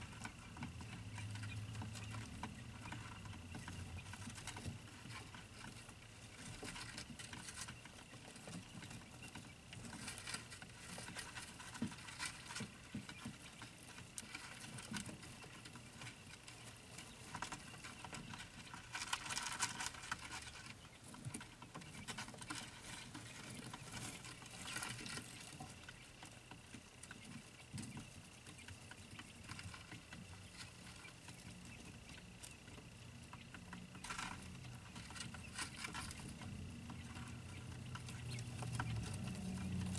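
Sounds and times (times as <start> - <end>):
chicks scratching and pecking: 0.0 - 39.9
faint steady hum: 0.0 - 39.9.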